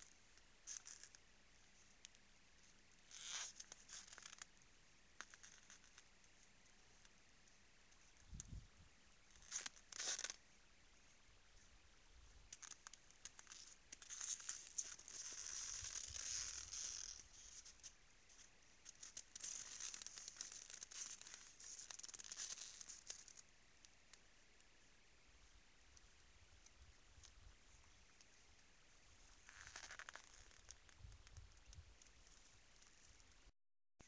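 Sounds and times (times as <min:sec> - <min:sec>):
crunching and crackling in snow: 0:00.0 - 0:04.6, 0:07.9 - 0:23.5, 0:25.4 - 0:33.5.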